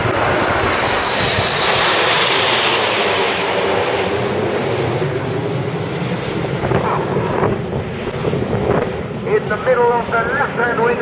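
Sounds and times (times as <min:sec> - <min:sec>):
jet engines overhead: 0:00.0 - 0:11.0.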